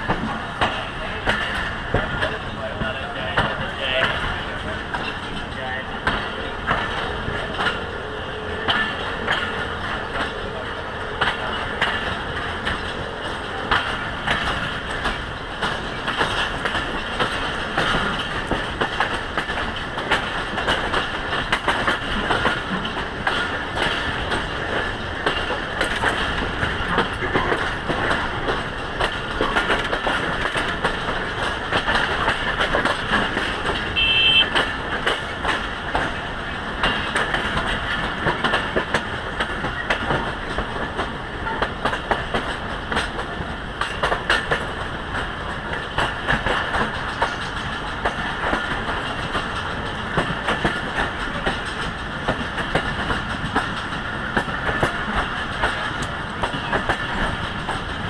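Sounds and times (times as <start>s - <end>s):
train rail rumble: 0.0s - 58.0s
wheels clicking over track: 0.0s - 58.0s.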